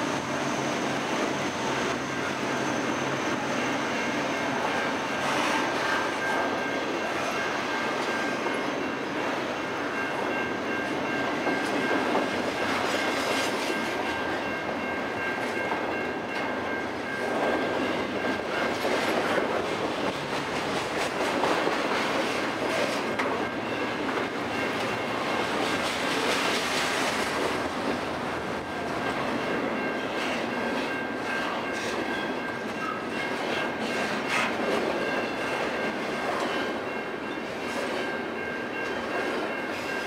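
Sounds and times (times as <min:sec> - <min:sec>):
freight train rumbling past: 0:00.0 - 0:40.0
steel wheels clattering on rails: 0:00.4 - 0:40.0.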